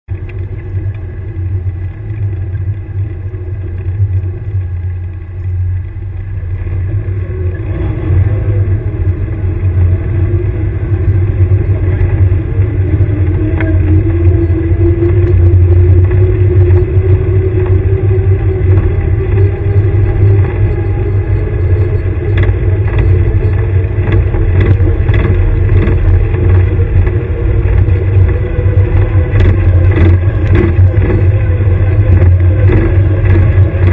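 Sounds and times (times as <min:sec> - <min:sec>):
vehicle engine rumbling: 0:00.0 - 0:33.9.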